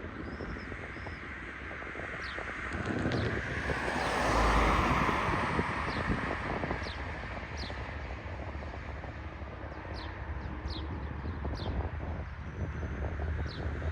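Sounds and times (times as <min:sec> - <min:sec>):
jet airliner engine and airflow: 0:00.0 - 0:13.9.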